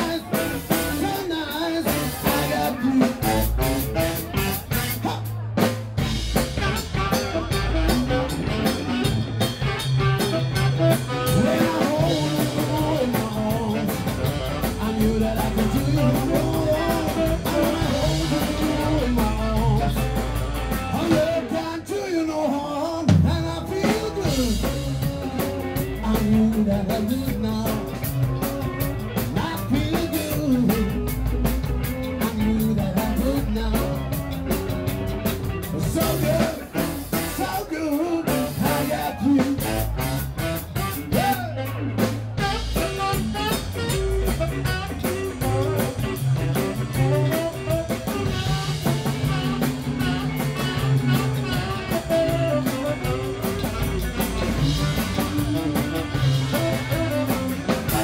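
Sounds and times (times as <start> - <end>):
saxophone: 0.0 - 5.4, 6.0 - 22.1, 23.3 - 58.0
upright double bass: 0.0 - 21.7, 23.1 - 58.0
drum kit: 0.0 - 21.8, 23.0 - 58.0
electric guitar: 0.0 - 58.0
lead line at microphone: 0.0 - 58.0.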